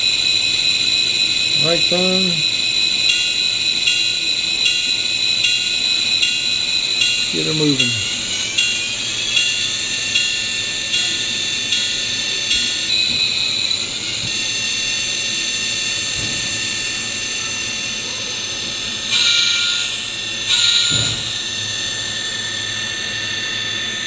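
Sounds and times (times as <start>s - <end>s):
tinny model diesel engine sound: 0.0s - 24.0s.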